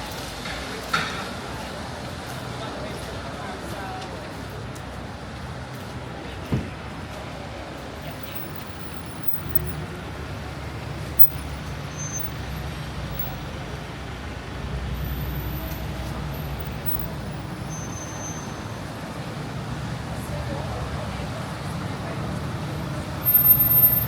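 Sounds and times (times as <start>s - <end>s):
vehicles passing on wet street: 0.0s - 24.0s
low engine rumble: 1.8s - 24.0s.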